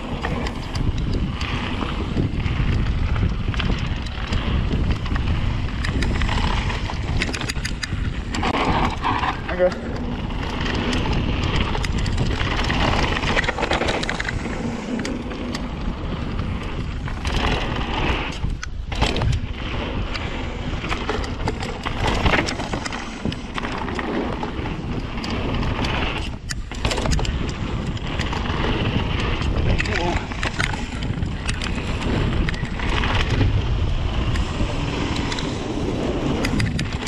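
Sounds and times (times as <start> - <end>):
bike rattling over bumps: 0.0 - 37.0
tyres rolling over rock and gravel: 0.0 - 37.0
wind on microphone: 0.0 - 37.0.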